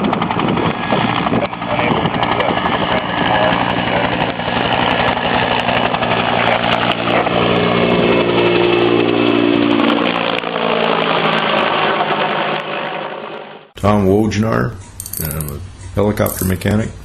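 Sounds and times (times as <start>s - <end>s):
helicopter rotor and turbine: 0.0s - 13.7s.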